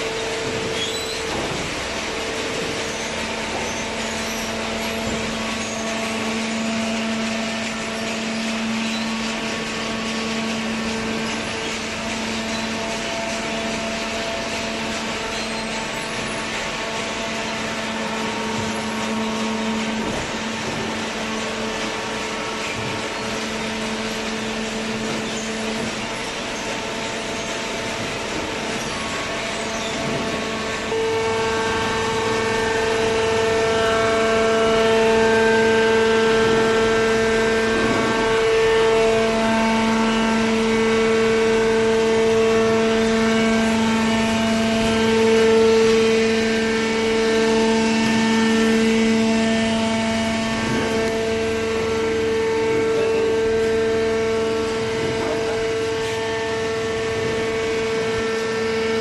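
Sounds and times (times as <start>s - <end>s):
baling machine humming: 0.0s - 59.0s
machine whine shifting in pitch: 0.0s - 59.0s.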